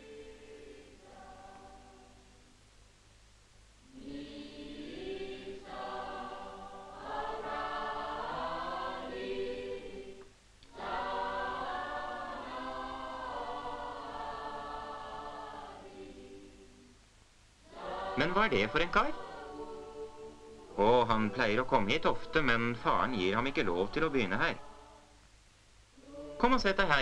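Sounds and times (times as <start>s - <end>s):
choir singing held notes: 0.0s - 2.6s, 3.8s - 17.0s, 17.6s - 25.2s, 25.9s - 27.0s.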